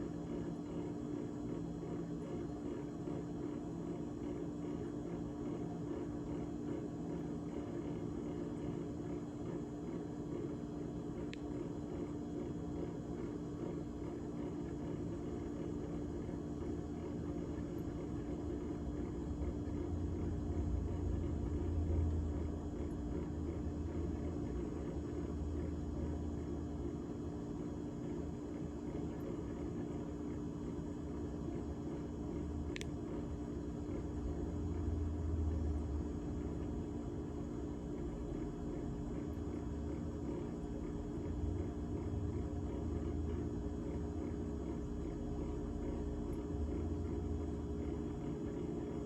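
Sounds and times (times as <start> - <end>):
refrigerator humming: 0.0 - 49.0.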